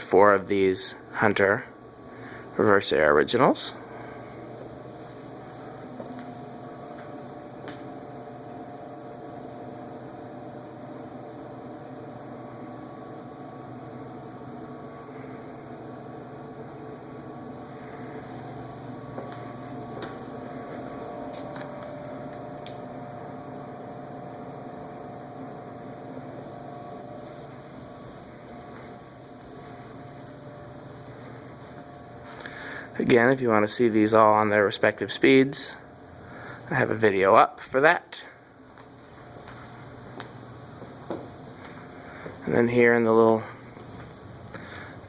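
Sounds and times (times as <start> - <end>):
ceiling fan motor hum: 0.0 - 45.0.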